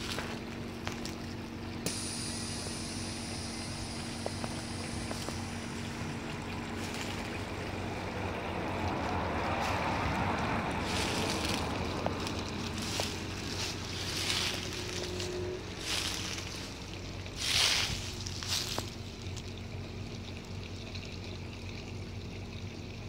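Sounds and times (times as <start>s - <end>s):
fountain water splashing: 0.0s - 23.0s
steady low hum: 0.0s - 23.0s.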